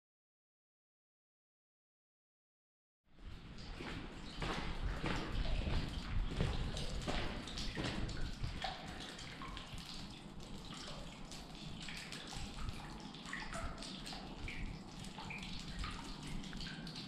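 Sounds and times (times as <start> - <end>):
water dripping into puddles: 3.2 - 17.0.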